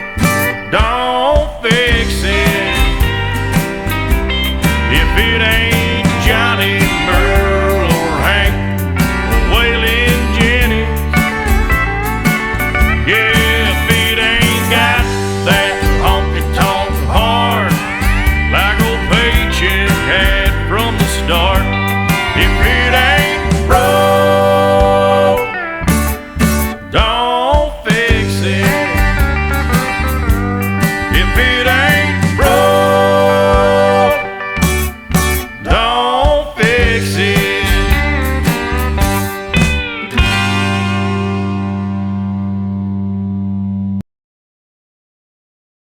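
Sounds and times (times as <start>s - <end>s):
country song with guitars: 0.0s - 44.0s.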